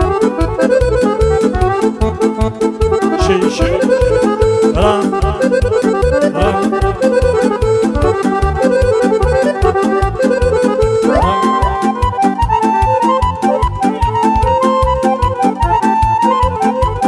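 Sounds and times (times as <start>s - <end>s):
accordion fast melody: 0.0s - 17.0s
bass: 0.0s - 17.0s.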